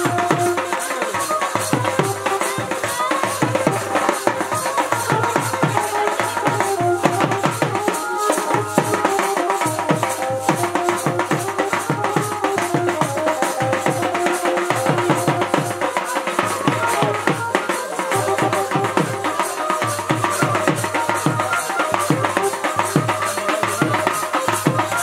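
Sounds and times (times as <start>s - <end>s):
barrel drum beating: 0.0s - 25.0s
melodic instrument holding notes: 0.0s - 25.0s.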